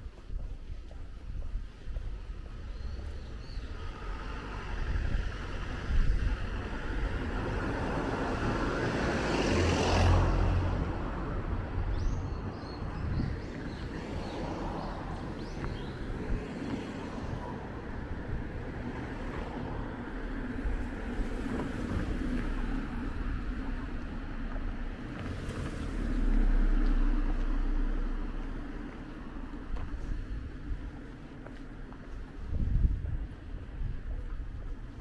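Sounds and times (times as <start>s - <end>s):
low wind rumble on microphone: 0.0s - 35.0s
passing car: 3.6s - 35.0s.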